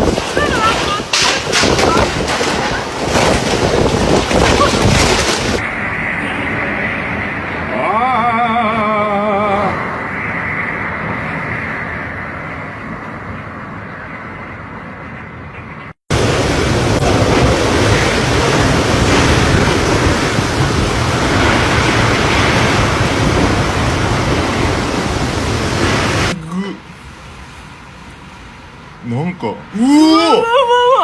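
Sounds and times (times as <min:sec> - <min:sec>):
storm wind buffeting microphone: 0:00.0 - 0:27.8.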